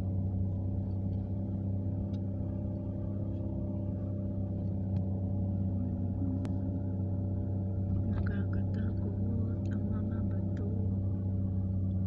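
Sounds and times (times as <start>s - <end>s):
car cabin drone at speed: 0.0s - 12.0s.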